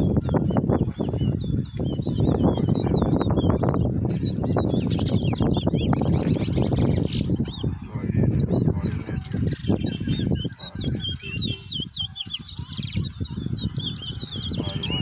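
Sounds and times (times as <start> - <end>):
finches singing: 0.0 - 15.0.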